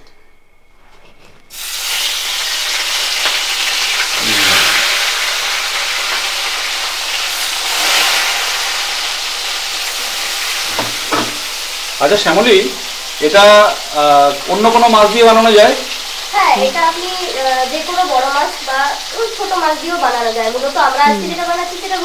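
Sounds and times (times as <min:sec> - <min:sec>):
fish sizzling in hot oil: 0:01.5 - 0:22.0.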